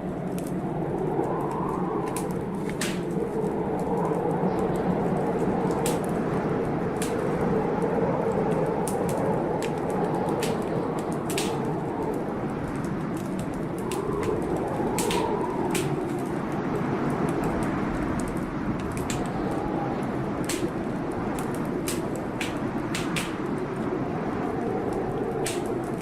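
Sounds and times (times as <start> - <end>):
rain rushing: 0.0 - 26.0
wood fire crackling: 0.0 - 26.0.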